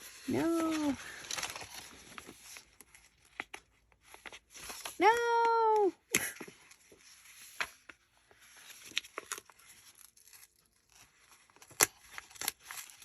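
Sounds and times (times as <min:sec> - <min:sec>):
paper rustling and peeling: 0:00.0 - 0:05.6, 0:06.4 - 0:13.0.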